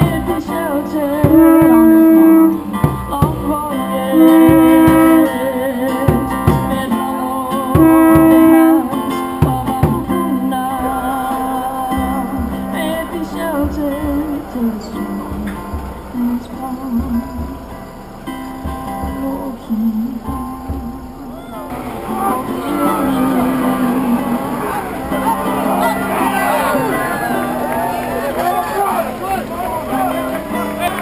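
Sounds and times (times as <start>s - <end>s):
plucked acoustic guitar: 0.0s - 31.0s.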